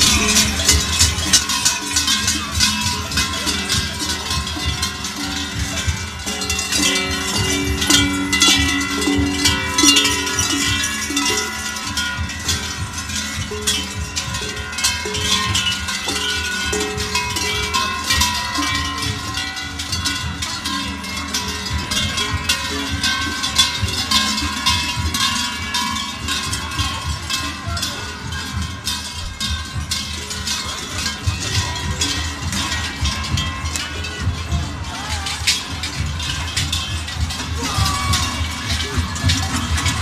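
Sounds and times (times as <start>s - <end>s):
large cowbells clanging: 0.0s - 40.0s.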